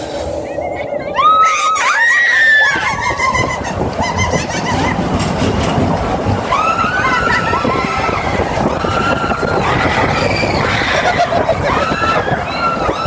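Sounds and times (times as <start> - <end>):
roller coaster rumbling on track: 0.0 - 13.0
people screaming: 0.5 - 5.1, 6.4 - 13.0.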